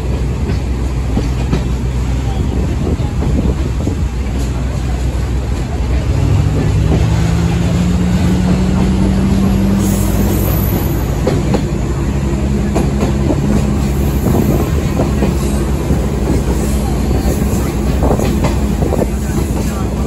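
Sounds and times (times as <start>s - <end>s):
train rumble and drone: 0.0s - 20.0s.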